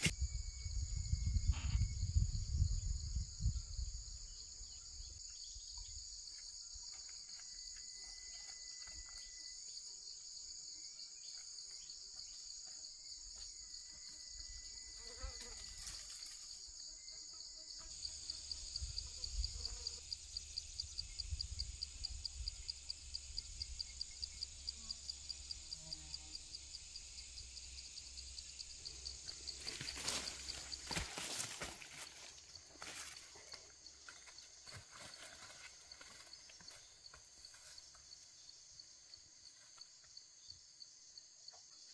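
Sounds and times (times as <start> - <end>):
insect pulsing call: 0.0 - 12.3, 13.0 - 40.8
high-pitched insect chorus: 0.0 - 41.9.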